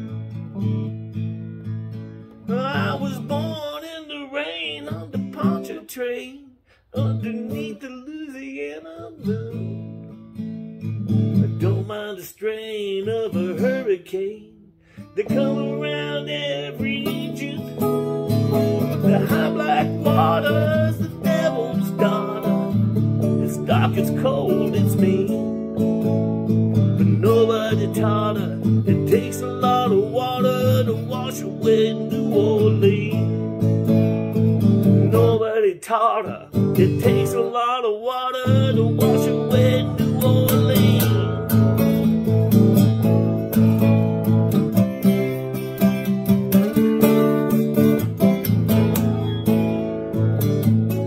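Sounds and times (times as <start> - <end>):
acoustic guitar strumming: 0.0 - 51.0
man singing: 2.3 - 10.0, 11.3 - 33.7, 34.7 - 42.1, 44.5 - 48.0.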